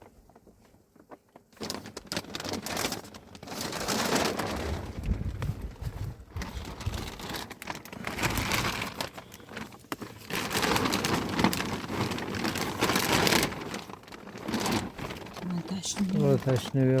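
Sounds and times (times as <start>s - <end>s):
plastic crinkling: 0.0s - 17.0s
water splashing on plastic tarp: 0.0s - 17.0s.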